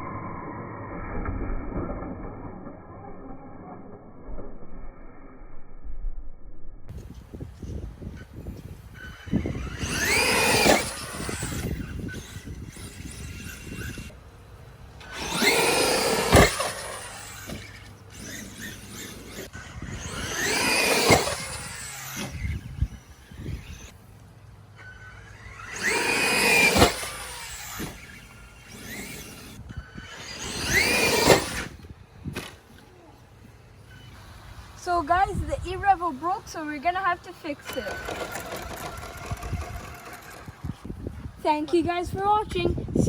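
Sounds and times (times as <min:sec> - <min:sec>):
rc truck motor whine: 0:06.9 - 0:41.4.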